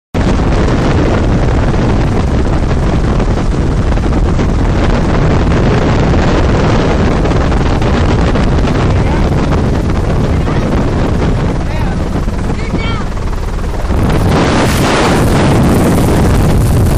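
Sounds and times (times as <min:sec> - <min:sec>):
helicopter engine and rotor drone: 0:00.2 - 0:16.9
wind rushing past: 0:00.2 - 0:16.9.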